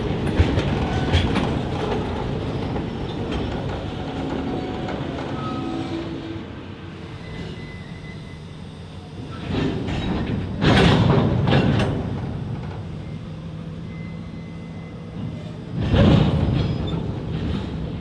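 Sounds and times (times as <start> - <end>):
diesel locomotive humming: 0.0 - 18.0
rail car wheel noise: 0.0 - 18.0.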